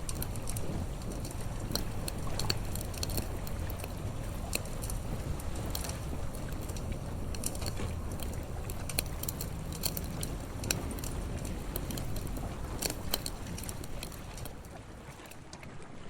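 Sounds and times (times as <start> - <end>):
wood fire crackling and popping: 0.0 - 15.5.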